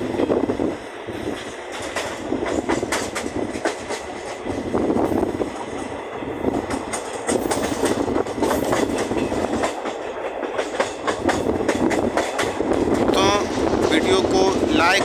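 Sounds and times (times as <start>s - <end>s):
train coach rumbling on rails: 0.0s - 15.0s
wheels clicking over rail joints: 1.2s - 4.9s, 5.5s - 15.0s.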